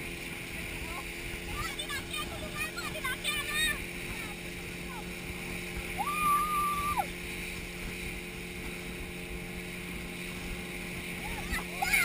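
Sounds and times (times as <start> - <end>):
rushing water: 0.0 - 12.0
speedboat engine drone: 0.0 - 12.0.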